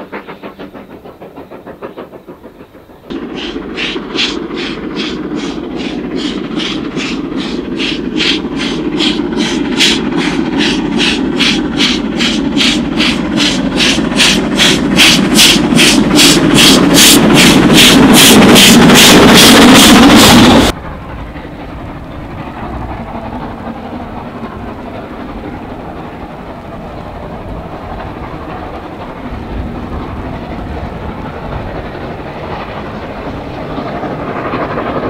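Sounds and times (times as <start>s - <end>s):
rumble of train wheels: 0.0s - 35.0s
steam locomotive chuffing: 0.0s - 35.0s.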